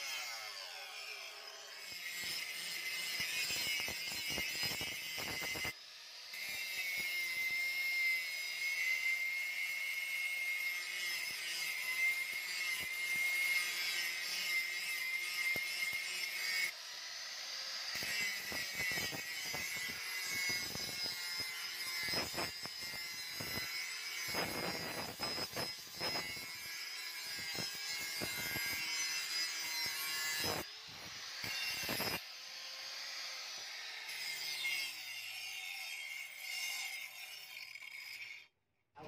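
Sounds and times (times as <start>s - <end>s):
angle grinder grinding steel: 0.0s - 38.5s.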